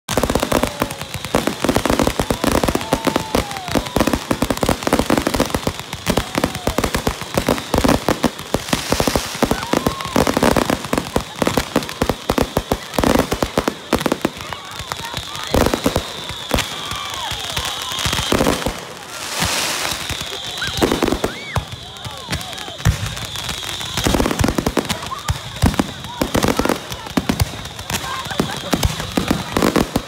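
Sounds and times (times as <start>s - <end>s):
fireworks banging and crackling: 0.0s - 30.0s.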